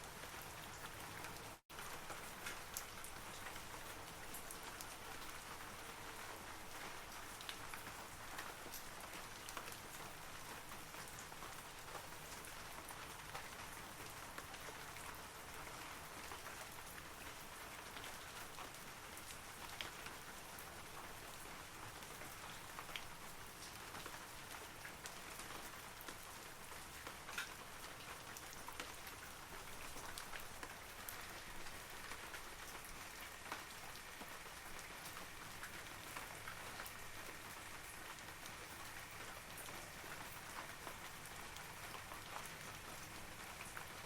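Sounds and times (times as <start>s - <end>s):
rain falling on trees: 0.0s - 44.0s.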